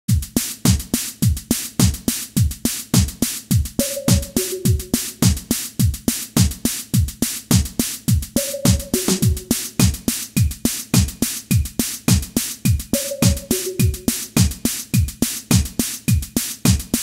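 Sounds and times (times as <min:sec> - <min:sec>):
electronic music with drum-machine beat: 0:00.1 - 0:17.0.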